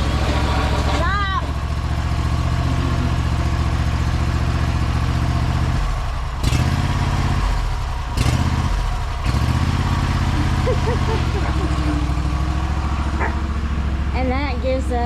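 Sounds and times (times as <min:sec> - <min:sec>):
riding lawn mower engine idling: 0:00.0 - 0:15.0.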